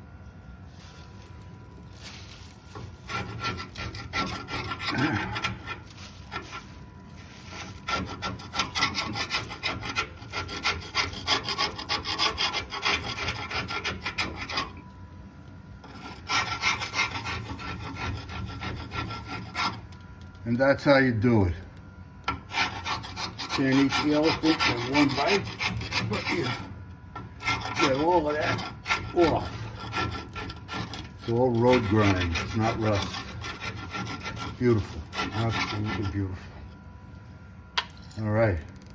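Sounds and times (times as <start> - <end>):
hand scraping grime off metal: 2.0 - 14.8, 15.8 - 20.0, 22.3 - 36.8.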